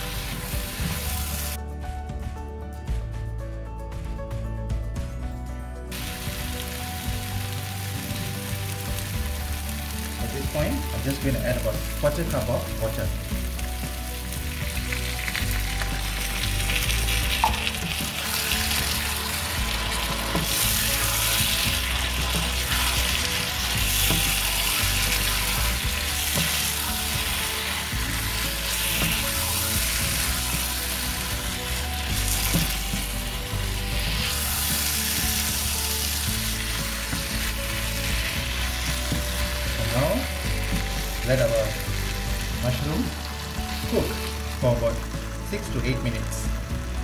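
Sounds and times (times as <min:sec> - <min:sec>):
mushrooms sizzling in a pan: 0:00.0 - 0:01.6, 0:05.9 - 0:47.0.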